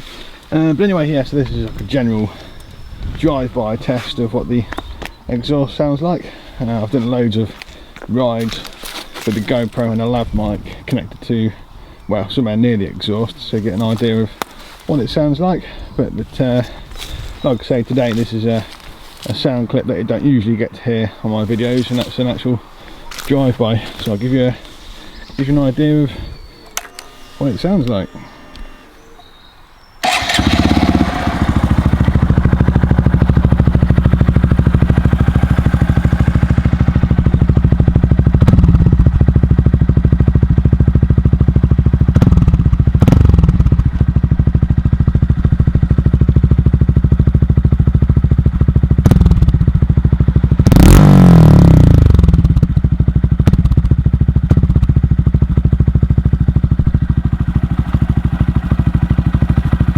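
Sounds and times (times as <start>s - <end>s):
engine throttle blips: 0.0s - 59.9s
motorcycle engine idling: 0.0s - 59.9s.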